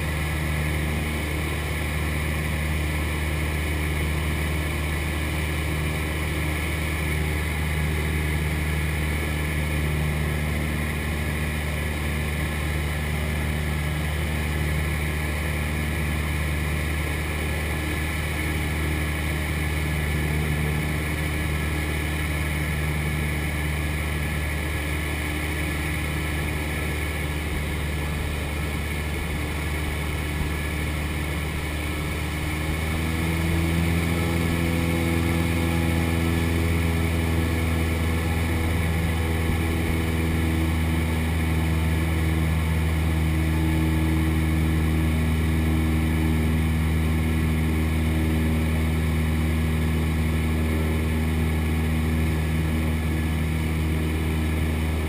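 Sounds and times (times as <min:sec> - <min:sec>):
aircraft engine and propeller droning: 0:00.0 - 0:55.0.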